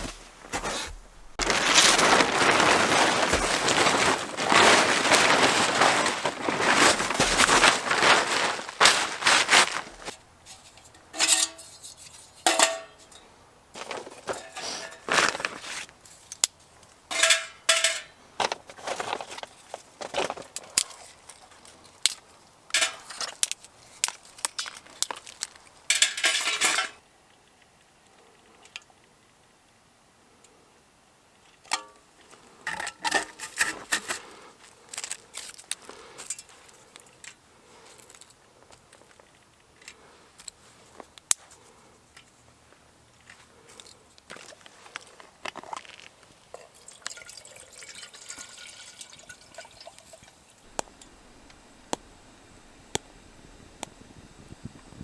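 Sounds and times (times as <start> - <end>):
rustling and crinkling gear: 0.0 - 27.0, 31.4 - 47.7, 50.6 - 55.0.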